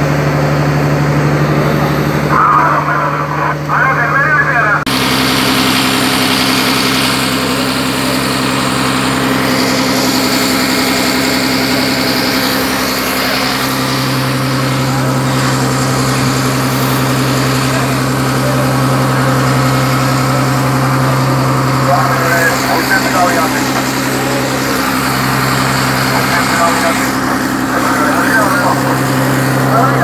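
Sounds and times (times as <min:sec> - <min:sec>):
boat diesel engine humming: 0:00.0 - 0:30.0
water rushing along hull: 0:04.9 - 0:30.0.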